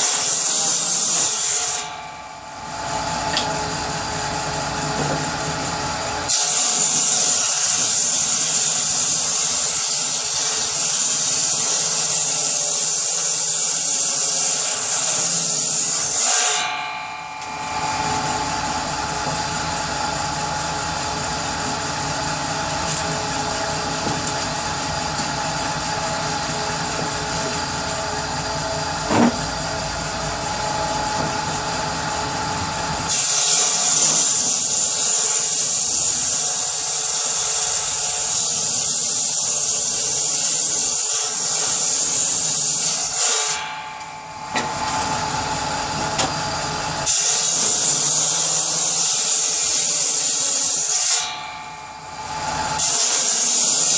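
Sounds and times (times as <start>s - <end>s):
power saw running: 0.0s - 53.9s.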